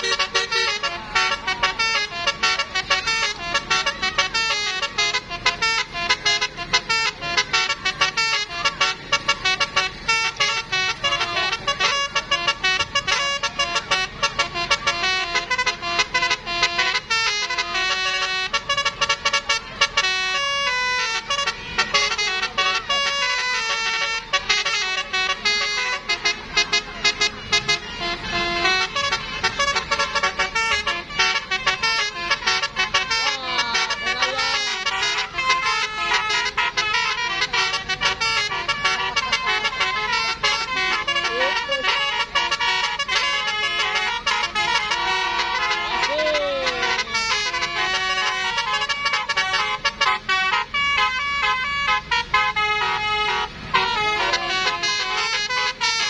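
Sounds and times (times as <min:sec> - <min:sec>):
multi-tone musical bus horn: 0:00.0 - 0:56.0.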